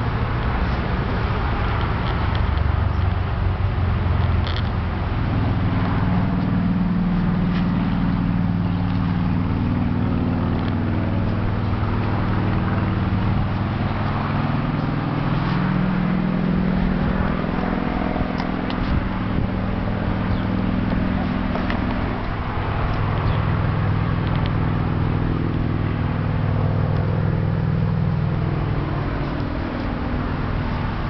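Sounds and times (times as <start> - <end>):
motor drone: 0.0 - 31.0.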